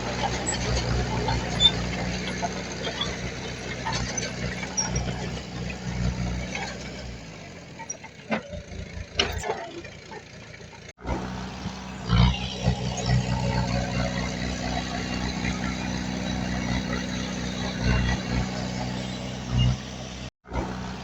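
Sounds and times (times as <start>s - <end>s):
diesel engine of heavy machinery: 0.0s - 21.0s.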